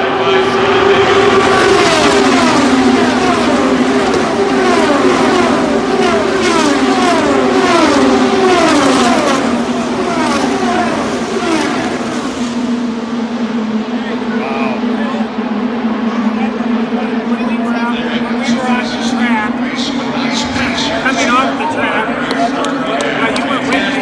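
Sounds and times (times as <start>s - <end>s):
race cars passing by: 0.0s - 24.0s
steady engine drone: 0.0s - 24.0s.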